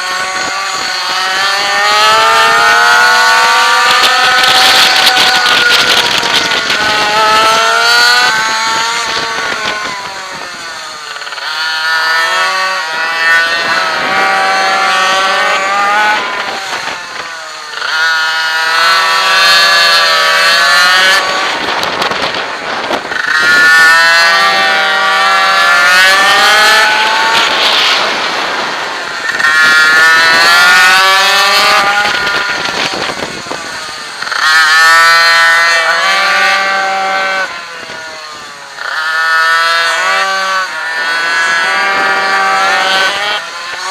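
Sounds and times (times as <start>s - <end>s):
small two-stroke engine revving: 0.0s - 43.9s.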